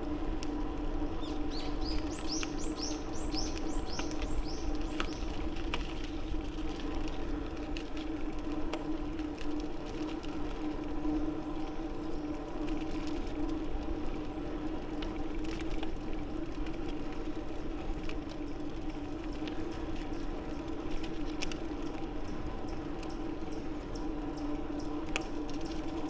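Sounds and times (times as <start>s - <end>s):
bicycle rolling on pavement: 0.0s - 26.0s.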